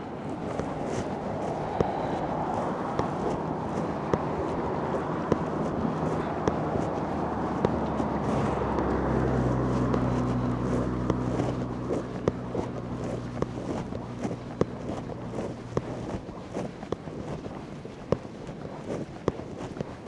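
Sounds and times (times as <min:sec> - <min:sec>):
vehicle engine passing: 0:00.0 - 0:16.3
wind on microphone: 0:00.0 - 0:16.5
footsteps: 0:00.0 - 0:20.0.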